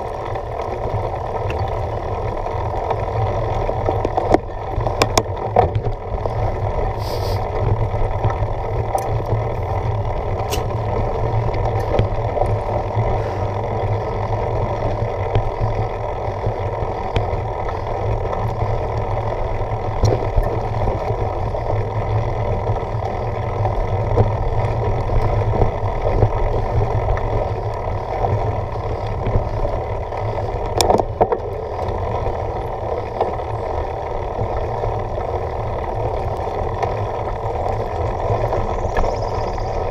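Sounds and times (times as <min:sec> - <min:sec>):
bike clicks and rattles: 0:00.0 - 0:39.9
tyres rumbling on dirt trail: 0:00.0 - 0:39.9.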